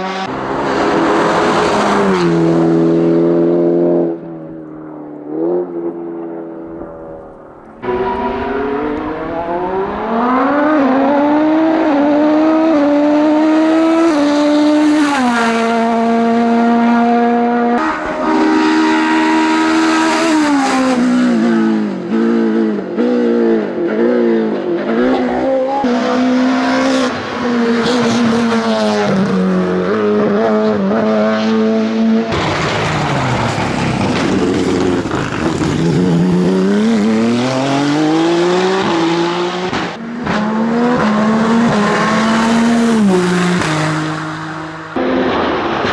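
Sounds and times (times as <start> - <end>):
race car engines at full throttle: 0.0 - 45.9.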